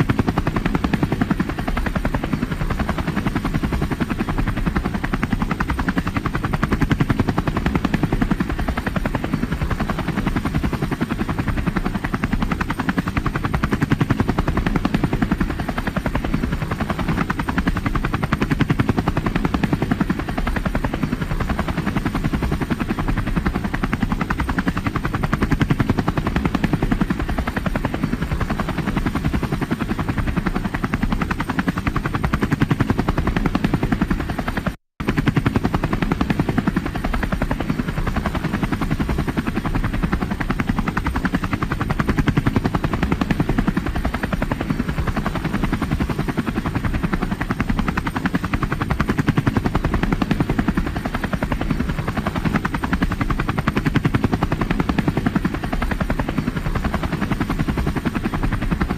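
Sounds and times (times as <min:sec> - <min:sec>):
helicopter rotor beating: 0:00.0 - 0:58.9.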